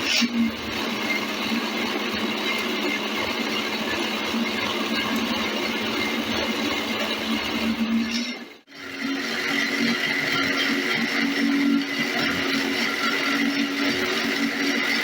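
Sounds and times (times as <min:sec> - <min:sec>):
motor and gearbox whirring: 0:00.0 - 0:15.0.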